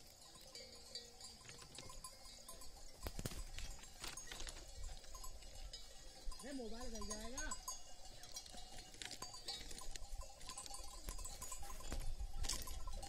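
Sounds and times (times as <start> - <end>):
livestock bells clinking: 0.0 - 13.0.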